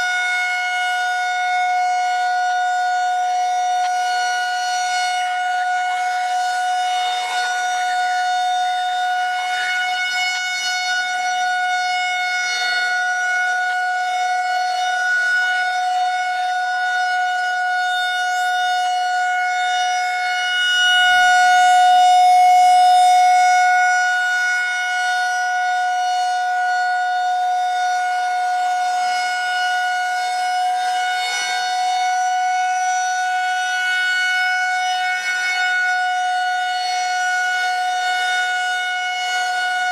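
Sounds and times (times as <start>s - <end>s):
civil defense siren steady tone: 0.0s - 39.9s.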